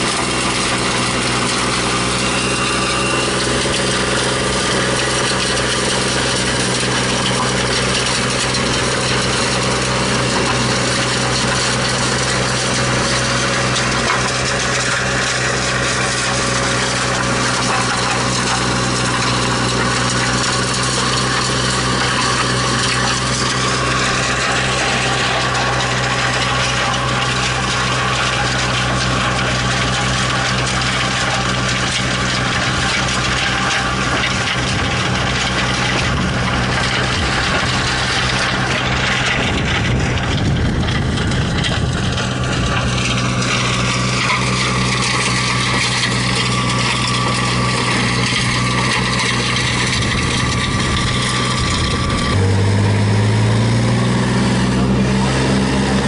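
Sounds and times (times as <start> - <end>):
stone crusher grinding soil: 0.0 - 56.0
tractor engine running: 0.0 - 56.0.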